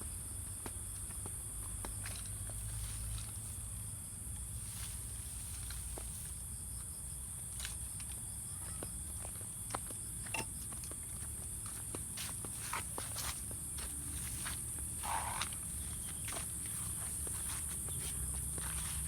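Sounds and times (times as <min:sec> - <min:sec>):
soft footsteps on ground: 0:00.5 - 0:03.7, 0:04.4 - 0:19.0.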